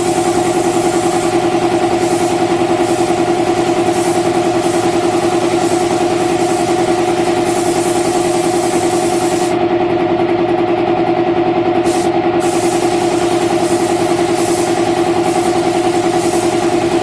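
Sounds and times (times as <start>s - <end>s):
paint spray gun hiss: 0.0s - 9.6s, 11.8s - 17.0s
air compressor pulsing hum: 0.0s - 17.0s.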